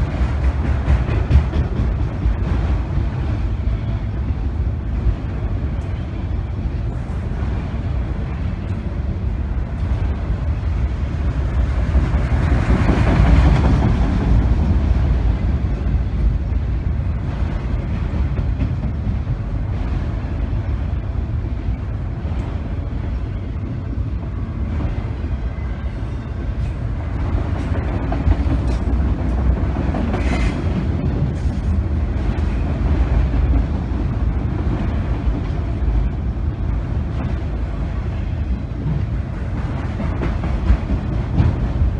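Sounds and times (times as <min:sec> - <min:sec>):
freight train wheels rumbling on rail: 0:00.0 - 0:41.9.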